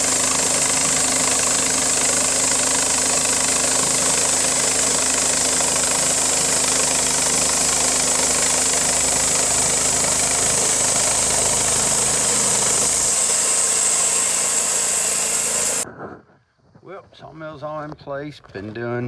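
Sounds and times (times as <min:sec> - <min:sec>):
engine running: 0:00.0 - 0:15.8.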